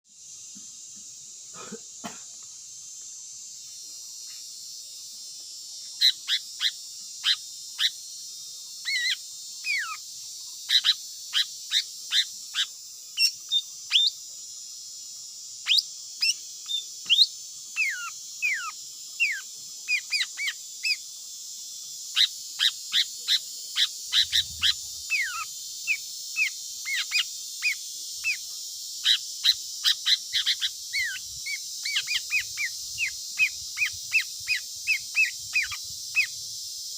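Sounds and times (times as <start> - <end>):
steady high hiss: 0.0 - 36.9.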